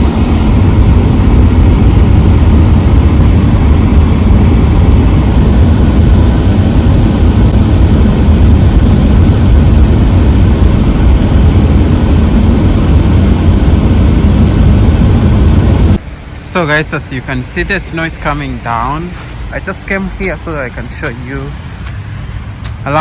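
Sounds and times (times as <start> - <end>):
car rumbling on snowy road: 0.0 - 23.0.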